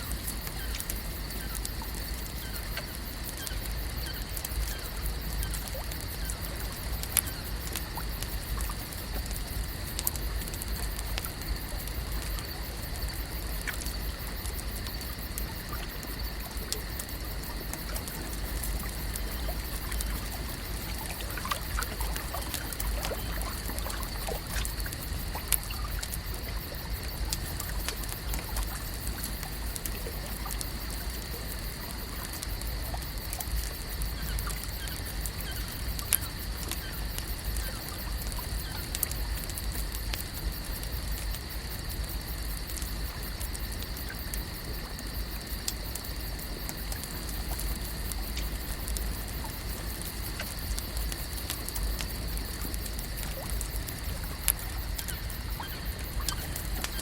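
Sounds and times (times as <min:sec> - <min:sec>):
water trickling and lapping: 0:00.0 - 0:57.0.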